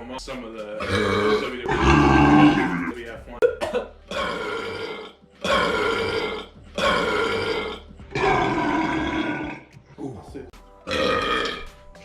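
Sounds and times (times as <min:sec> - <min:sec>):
person belching: 0:00.8 - 0:09.7, 0:10.8 - 0:11.7.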